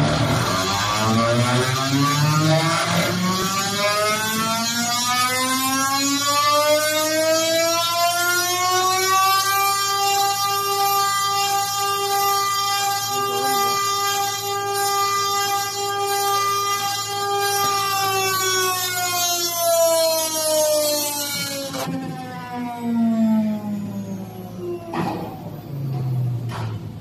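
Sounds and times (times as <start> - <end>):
spindle motor whining: 0.0 - 27.0.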